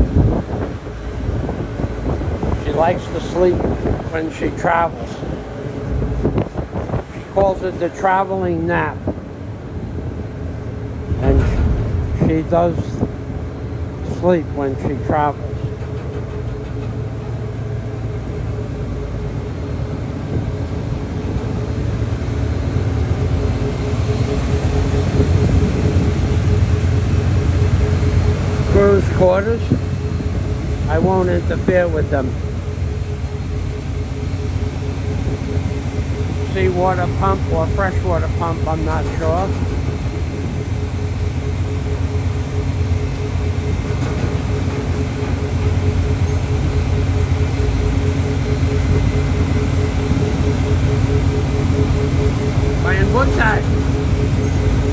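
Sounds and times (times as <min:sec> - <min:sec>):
ship engines droning: 0:00.0 - 0:54.9.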